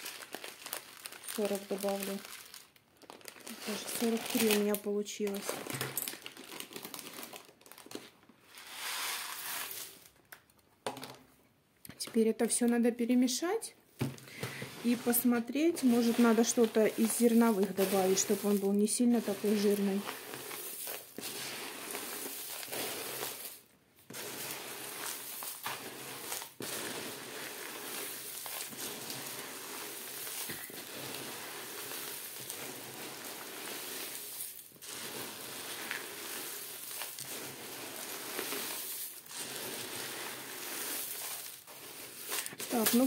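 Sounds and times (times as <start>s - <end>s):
grains rustling in plastic tub: 0.0s - 10.2s, 14.1s - 43.0s.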